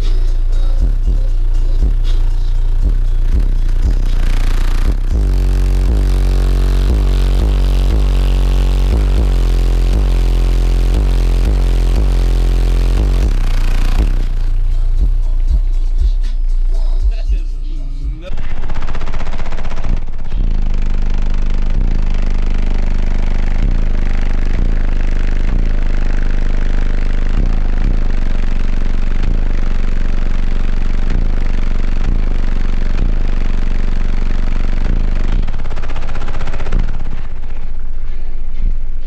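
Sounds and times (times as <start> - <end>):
deep bass notes from subwoofers: 0.0 - 39.0.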